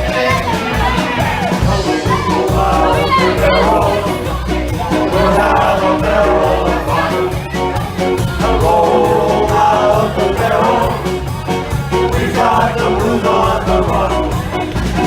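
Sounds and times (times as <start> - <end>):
live polka band: 0.0 - 15.0.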